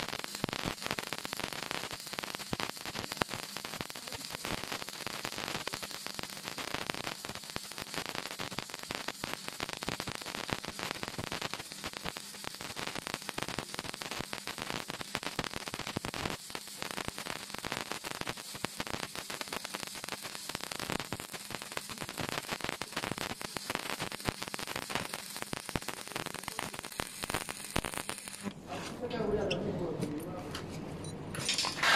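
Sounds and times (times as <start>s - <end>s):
welding arc crackling: 0.0s - 29.7s.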